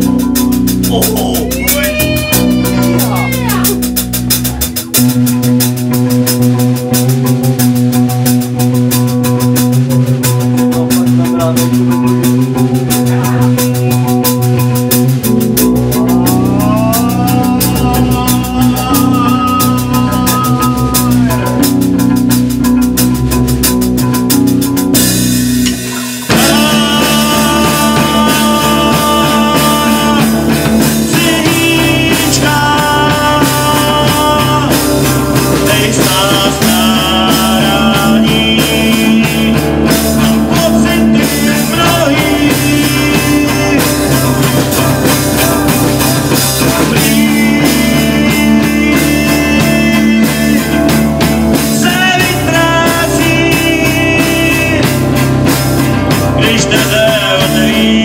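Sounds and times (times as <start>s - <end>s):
acoustic guitars: 0.0s - 58.0s
drum kit: 0.0s - 58.0s
electric bass: 0.0s - 58.0s.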